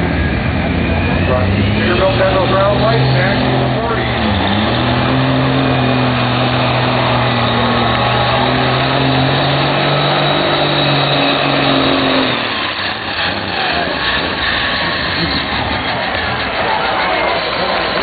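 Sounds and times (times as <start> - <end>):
diesel truck engine running hard: 0.0 - 18.0.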